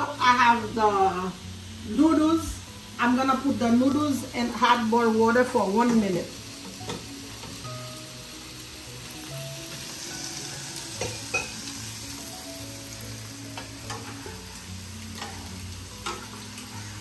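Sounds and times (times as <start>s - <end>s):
food sizzling in oil in a wok: 0.0s - 17.0s.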